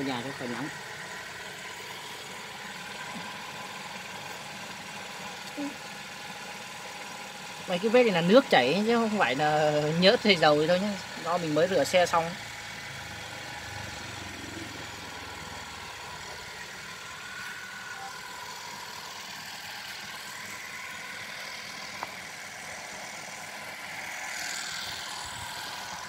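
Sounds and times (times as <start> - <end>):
engine hum: 0.0 - 26.0.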